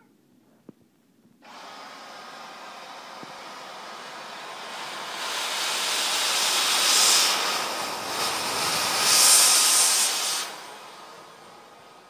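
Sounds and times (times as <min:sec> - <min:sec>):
handheld vacuum running: 0:01.4 - 0:12.0.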